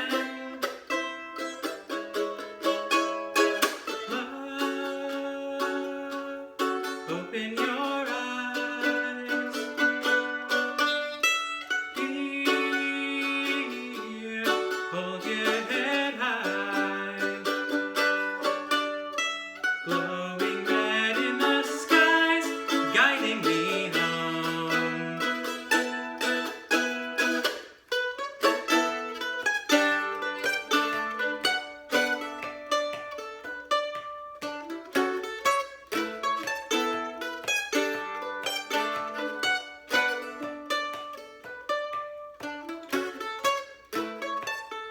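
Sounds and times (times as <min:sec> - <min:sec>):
plucked string melody: 0:00.0 - 0:44.9.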